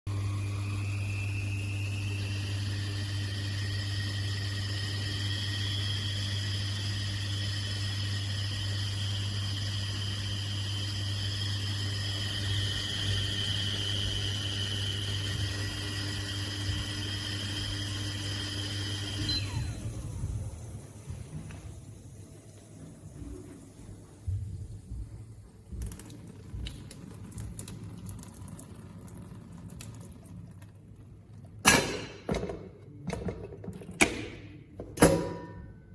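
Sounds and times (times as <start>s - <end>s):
kettle whistling: 0.1s - 35.5s.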